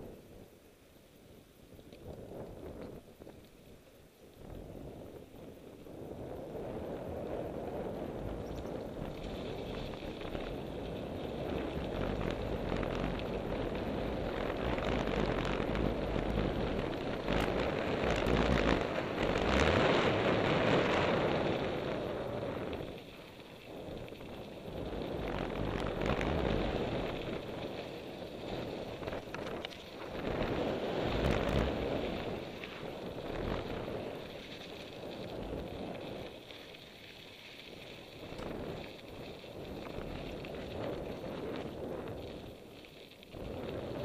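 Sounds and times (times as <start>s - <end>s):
wind on microphone: 0.0s - 0.6s, 1.7s - 37.0s, 37.6s - 44.0s
mountain bike rattling on dirt trail: 0.0s - 44.0s.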